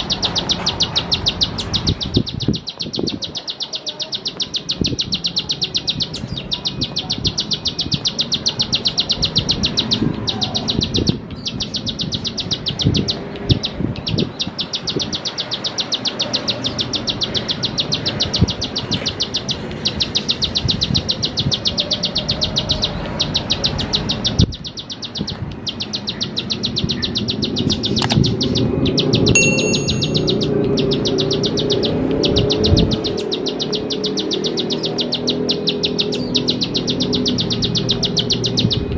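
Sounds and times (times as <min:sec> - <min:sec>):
bird high ticking notes: 0:00.0 - 0:38.9.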